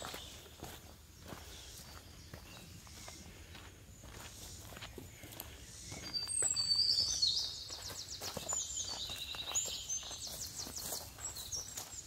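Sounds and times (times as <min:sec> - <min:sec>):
footsteps on rocky dirt: 0:00.0 - 0:12.0
songbirds singing: 0:00.0 - 0:12.0.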